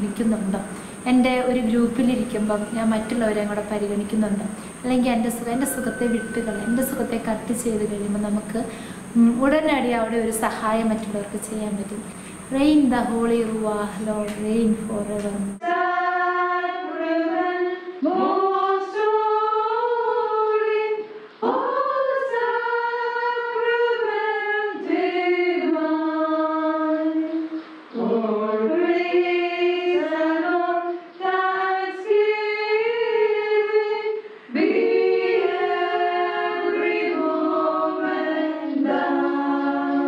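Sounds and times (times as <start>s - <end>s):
women singing a hymn: 0.0s - 40.0s.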